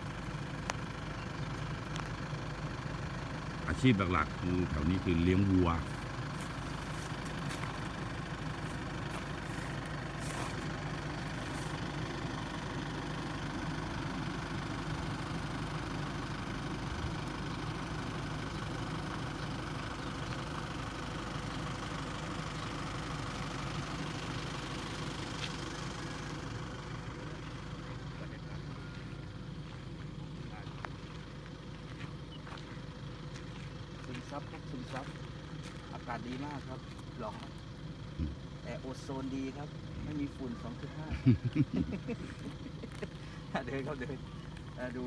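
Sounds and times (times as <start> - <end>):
vehicle engine running: 0.0 - 45.0.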